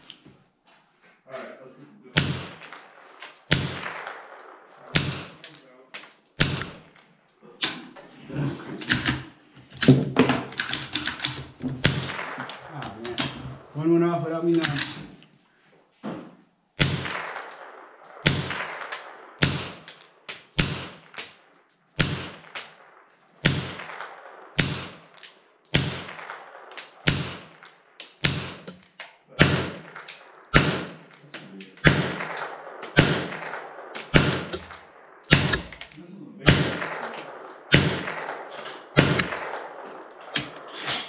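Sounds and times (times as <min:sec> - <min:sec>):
rifle shots ringing: 0:02.2 - 0:08.0, 0:10.4 - 0:13.8, 0:14.4 - 0:15.1, 0:16.8 - 0:41.0.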